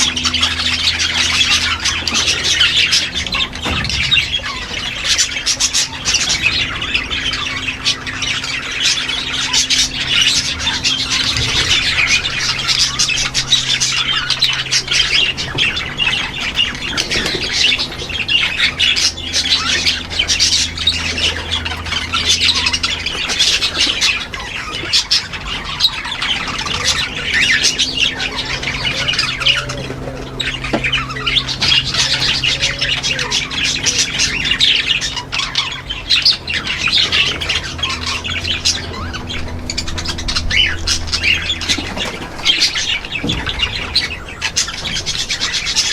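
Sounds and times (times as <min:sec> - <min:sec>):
parrots squawking and chattering: 0:00.0 - 0:45.9.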